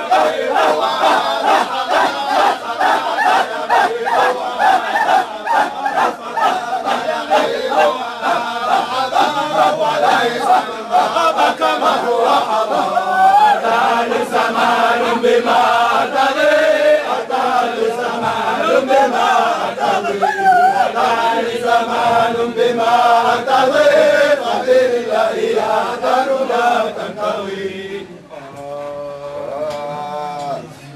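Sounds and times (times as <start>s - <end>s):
men chanting together: 0.0s - 30.7s.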